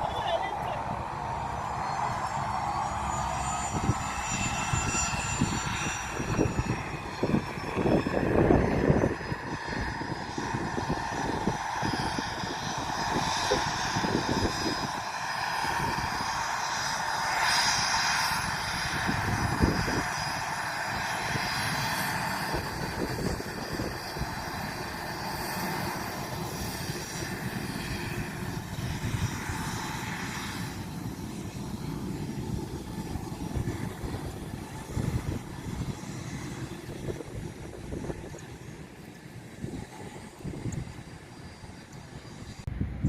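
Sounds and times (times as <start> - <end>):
airplane engines whining: 0.0 - 43.0
constant rush: 0.0 - 43.0
low rumbling gusts: 0.0 - 43.0.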